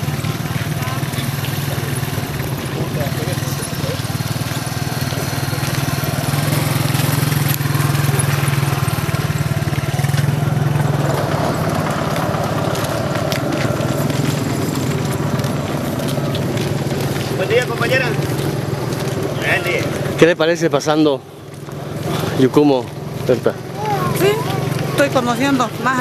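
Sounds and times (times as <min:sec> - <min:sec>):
outdoor street noise: 0:00.0 - 0:26.0
vehicle engine humming: 0:00.0 - 0:26.0.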